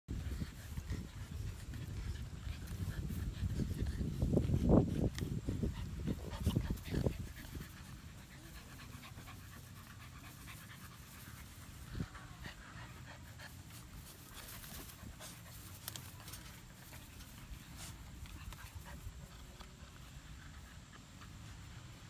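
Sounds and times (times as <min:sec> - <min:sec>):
puppies panting: 0:00.1 - 0:22.0
puppies scuffling: 0:00.1 - 0:22.0.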